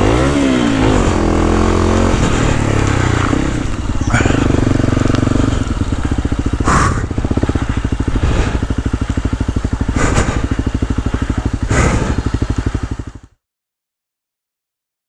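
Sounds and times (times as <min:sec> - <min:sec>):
motorcycle engine chugging: 0:00.0 - 0:13.4.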